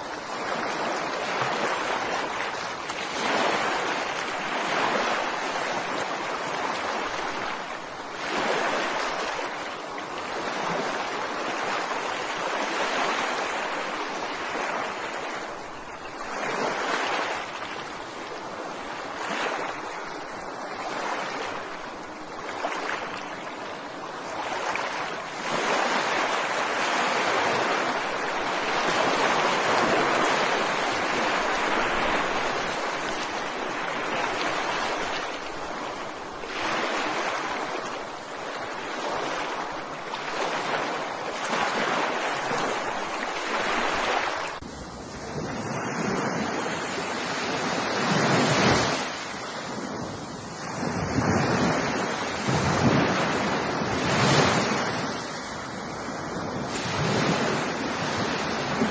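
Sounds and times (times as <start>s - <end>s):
waves breaking: 0.0s - 58.9s.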